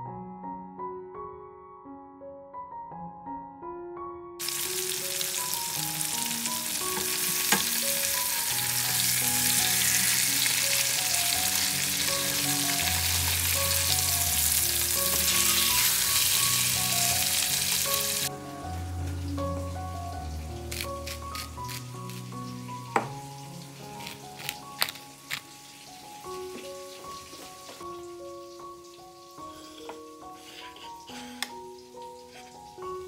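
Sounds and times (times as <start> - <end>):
soft piano music: 0.0 - 33.0
chicken sizzling in frying pan: 4.4 - 18.3, 20.2 - 33.0.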